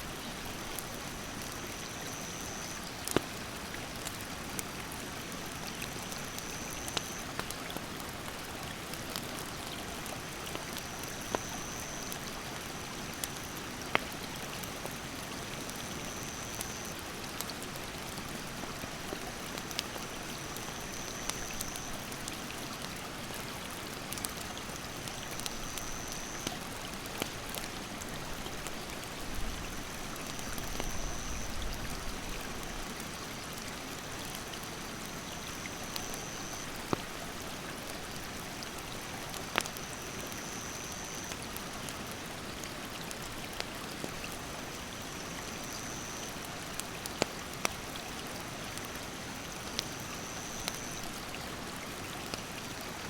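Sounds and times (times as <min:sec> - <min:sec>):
rushing stream: 0:00.0 - 0:53.0
campfire crackling: 0:00.1 - 0:51.3.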